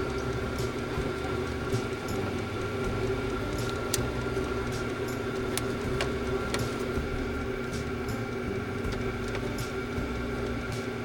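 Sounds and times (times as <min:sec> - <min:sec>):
air heater humming: 0:00.0 - 0:11.0.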